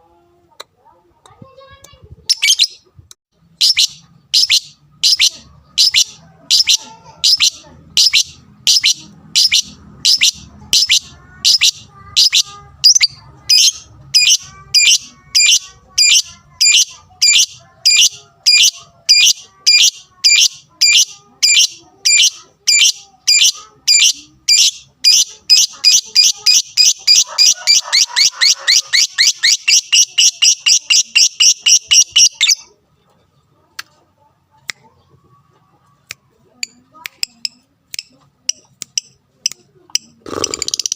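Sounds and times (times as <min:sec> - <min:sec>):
lovebird chirping: 0:02.3 - 0:02.9, 0:03.6 - 0:32.7, 0:36.6 - 0:40.9.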